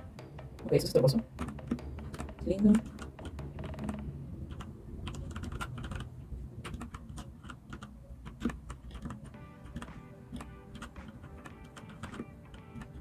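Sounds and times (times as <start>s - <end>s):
mechanical keyboard key clicks: 1.4s - 13.0s.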